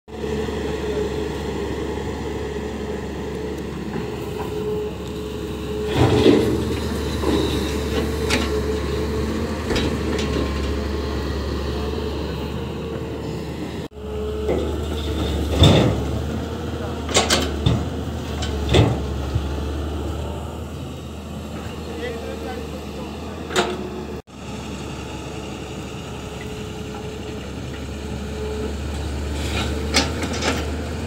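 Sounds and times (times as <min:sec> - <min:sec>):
excavator diesel engine running: 0:00.1 - 0:31.0.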